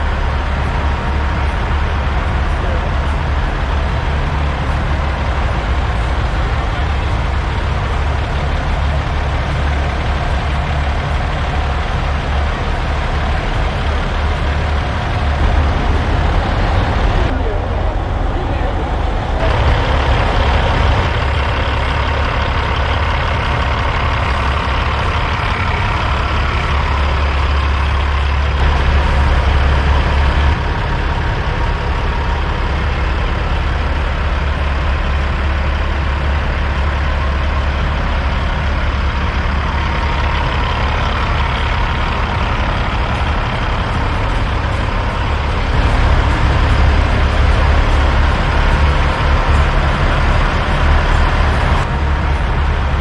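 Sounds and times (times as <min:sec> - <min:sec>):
diesel engines idling: 0:00.0 - 0:53.0.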